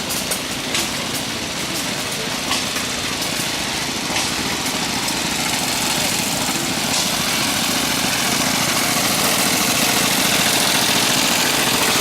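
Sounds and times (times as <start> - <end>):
steam engines chattering: 0.0 - 12.0
steam hiss: 0.0 - 12.0.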